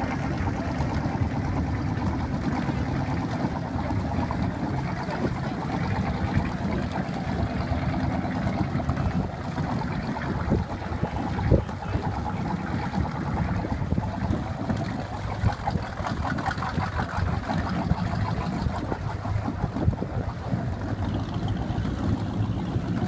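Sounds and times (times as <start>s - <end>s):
boat engines idling: 0.0s - 23.0s.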